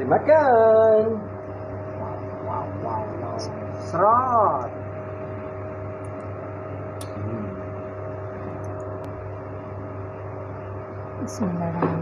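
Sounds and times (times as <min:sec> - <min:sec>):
electrical appliance hum and hiss: 0:00.0 - 0:12.0.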